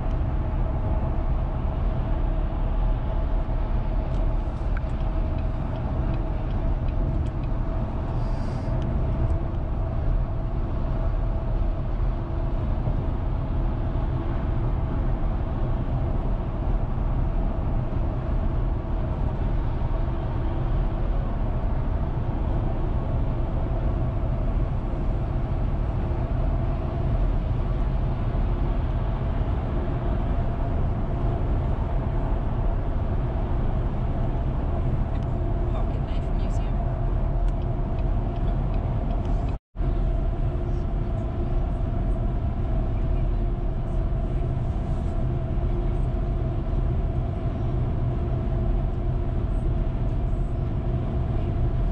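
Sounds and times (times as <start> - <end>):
car cabin road rumble: 0.0 - 51.9
constant hum: 0.0 - 51.9.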